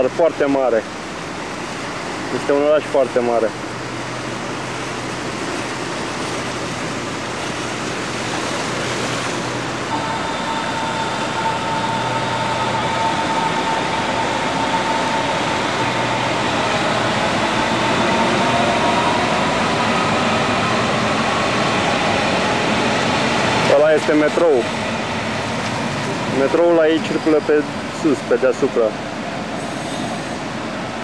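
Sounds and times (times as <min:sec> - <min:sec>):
electric train rumble: 0:00.0 - 0:31.0
thin motor whine: 0:03.7 - 0:30.5.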